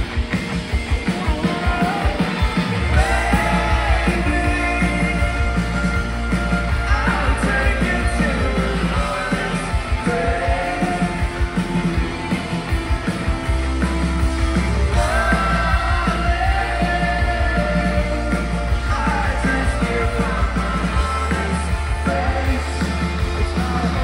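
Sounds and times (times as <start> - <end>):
rock band playing live: 0.0 - 24.0
person singing: 1.0 - 6.0, 6.8 - 12.0, 14.9 - 24.0.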